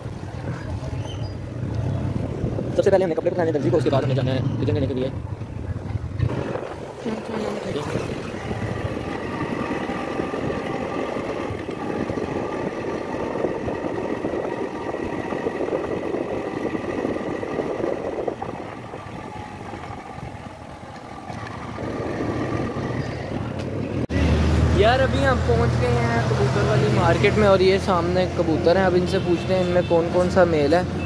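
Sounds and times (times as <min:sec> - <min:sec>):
road and wind noise: 0:00.0 - 0:31.0
motorcycle engine running: 0:05.2 - 0:31.0.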